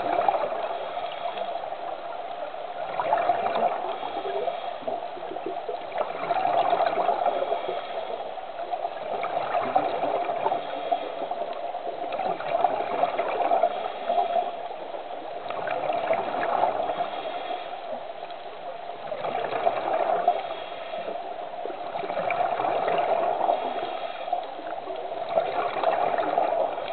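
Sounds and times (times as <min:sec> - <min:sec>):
water sloshing and gurgling underwater: 0:00.0 - 0:26.9.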